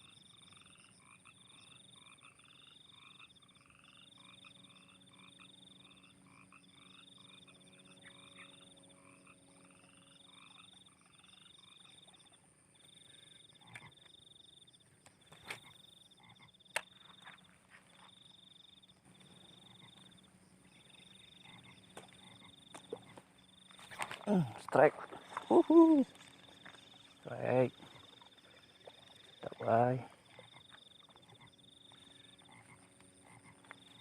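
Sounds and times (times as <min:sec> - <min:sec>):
frogs croaking in chorus: 0:00.0 - 0:34.0.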